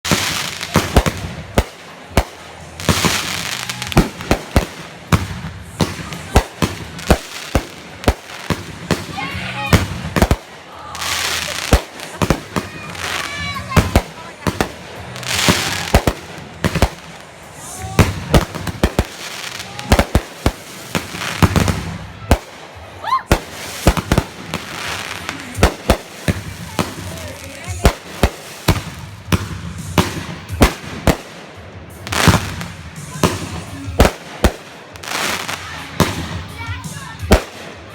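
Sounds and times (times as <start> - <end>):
fireworks bangs: 0.0 - 37.9
fireworks crackling hiss: 0.0 - 37.9.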